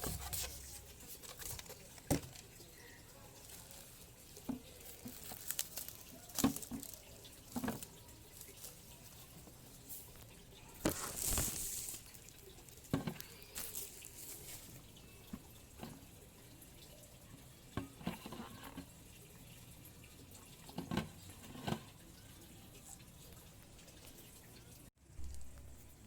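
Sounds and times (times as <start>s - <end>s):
water dripping: 0.0s - 26.0s.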